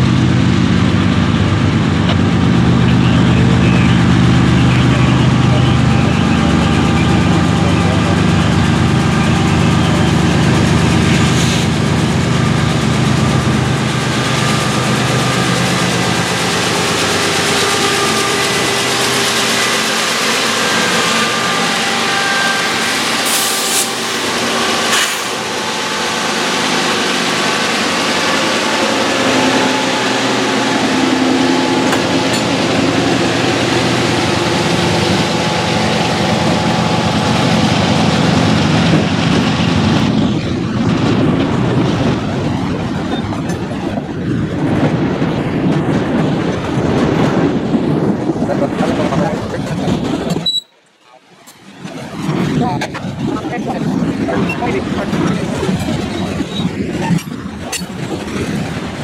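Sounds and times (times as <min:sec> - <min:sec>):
diesel locomotive engine hum: 0:00.0 - 0:59.0
train wheels rumbling on rail: 0:00.0 - 0:59.0.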